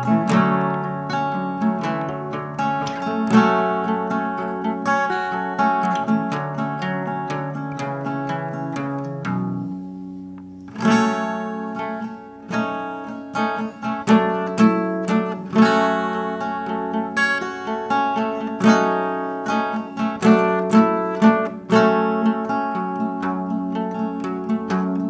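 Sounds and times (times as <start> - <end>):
acoustic guitar: 0.0 - 25.0.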